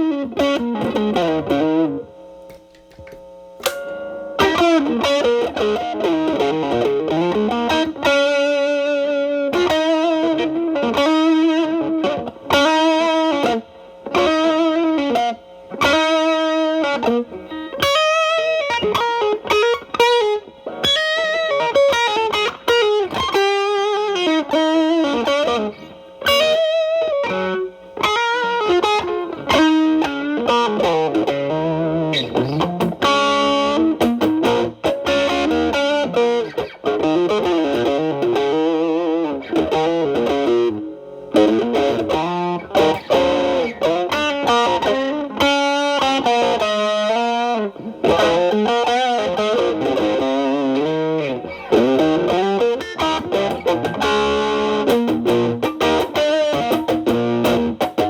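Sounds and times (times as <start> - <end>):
overdriven electric guitar lead: 0.0 - 58.0.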